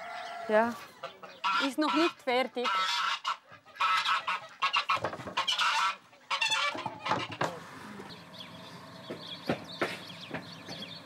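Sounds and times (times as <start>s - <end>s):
poultry calling: 0.0s - 11.0s.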